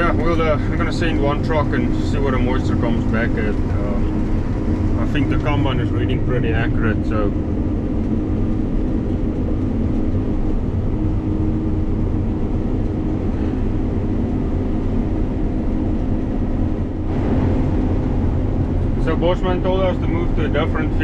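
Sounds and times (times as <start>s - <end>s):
combine harvester humming: 0.0s - 21.0s.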